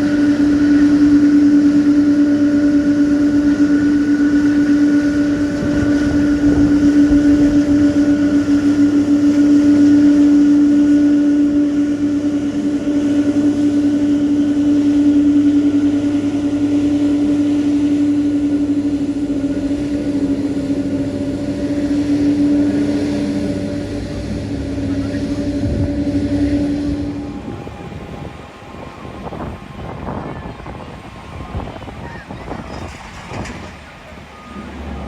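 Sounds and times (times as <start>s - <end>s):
jet engines droning: 0.0s - 35.0s.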